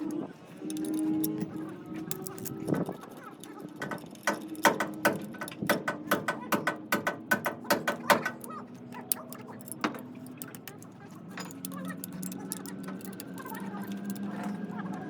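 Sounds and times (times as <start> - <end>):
metal tools clinking: 0.0 - 15.0.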